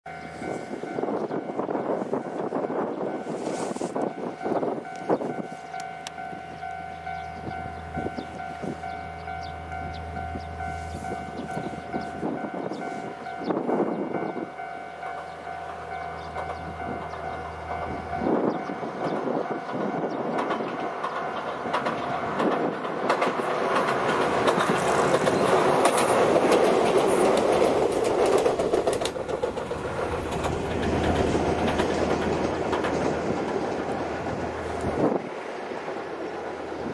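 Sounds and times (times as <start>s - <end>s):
electric train passing: 0.1s - 36.9s
wheels clattering on rails: 2.2s - 36.9s.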